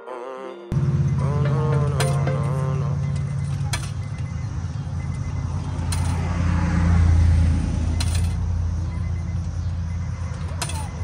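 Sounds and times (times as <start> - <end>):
low motor hum: 0.7 - 11.0.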